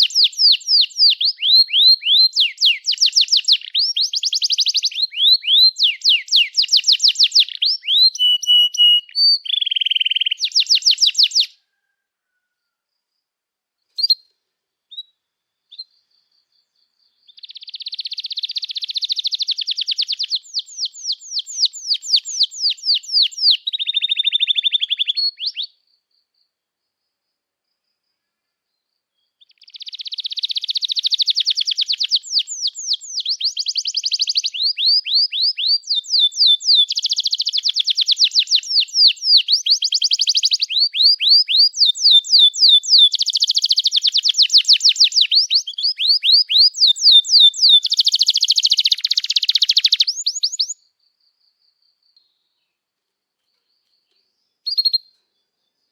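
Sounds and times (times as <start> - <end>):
canary singing trills: 0.0 - 12.0, 13.9 - 14.3, 14.9 - 25.9, 29.2 - 51.0, 53.4 - 55.9.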